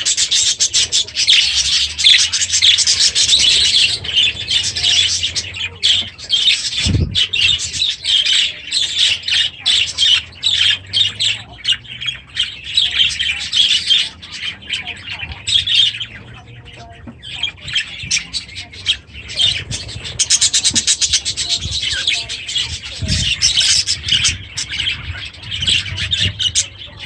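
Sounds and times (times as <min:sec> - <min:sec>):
budgerigars chattering and squawking: 0:00.0 - 0:27.0.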